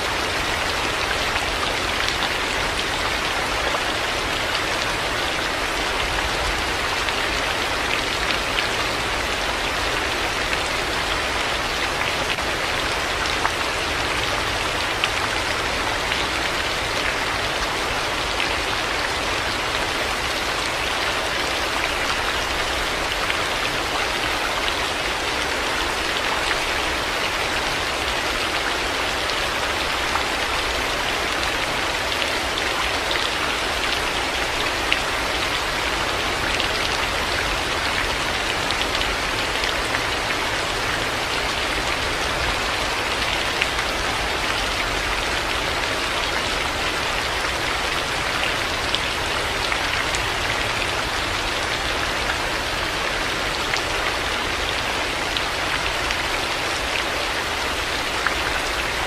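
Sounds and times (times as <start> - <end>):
raindrops ticking on a surface: 0.1 - 59.0.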